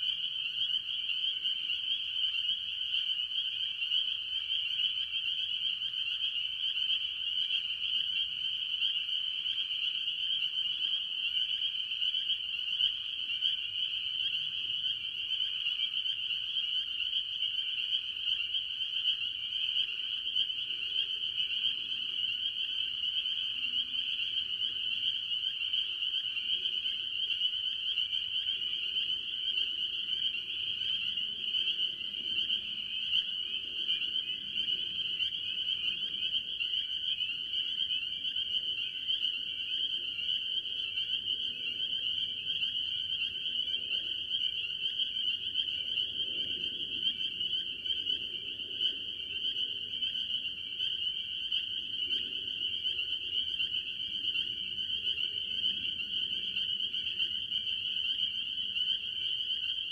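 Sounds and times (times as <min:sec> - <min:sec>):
chorus of peeping frogs: 0:00.0 - 0:59.9
tree frogs calling: 0:00.0 - 0:59.9.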